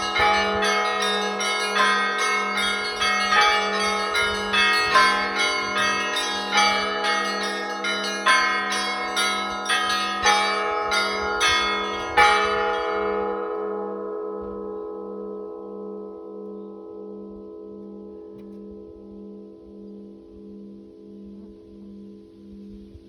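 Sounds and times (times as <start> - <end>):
church bells ringing: 0.0 - 21.8.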